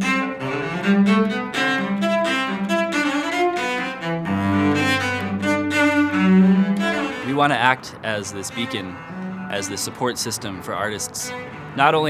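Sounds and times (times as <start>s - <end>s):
bowed cello melody: 0.0s - 12.0s.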